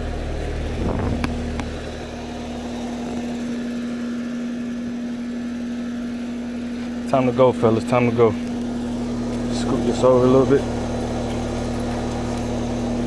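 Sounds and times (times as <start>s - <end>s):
heat pump compressor hum: 0.0s - 13.0s.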